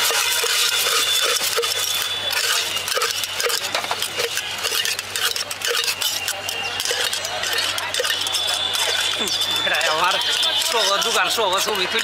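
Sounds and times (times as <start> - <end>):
spoon clinking in steel mug: 0.0 - 11.4.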